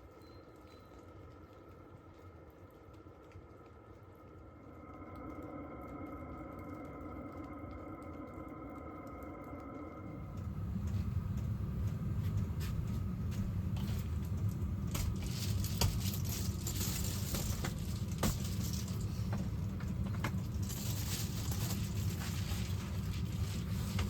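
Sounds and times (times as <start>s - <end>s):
wood stove fire crackling: 0.0s - 24.0s.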